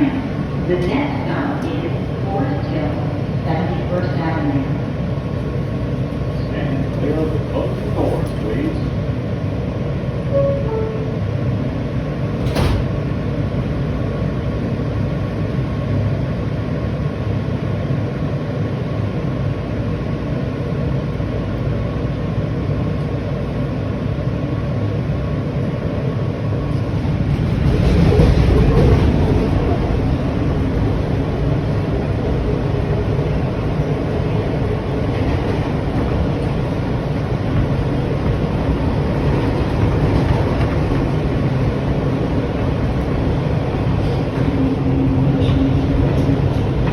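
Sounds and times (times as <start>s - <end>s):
subway train rumbling: 0.0s - 46.9s.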